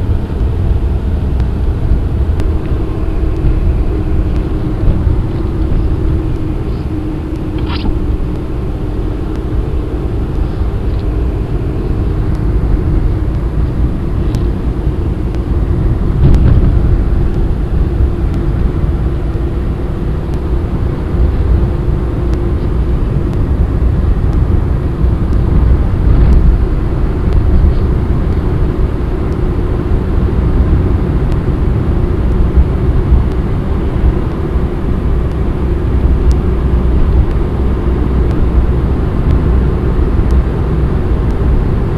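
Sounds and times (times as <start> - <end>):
car engine and road noise: 0.0 - 41.9
faint steady hum: 0.0 - 41.9.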